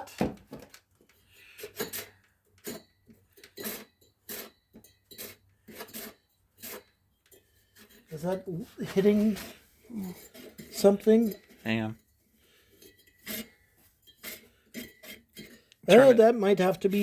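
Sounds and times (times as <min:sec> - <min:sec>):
metallic clinks and knocks: 0:00.6 - 0:16.0.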